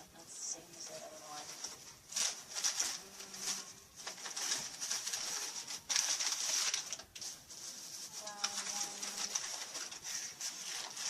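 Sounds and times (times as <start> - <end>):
paper rustling and crinkling: 0.6 - 11.0.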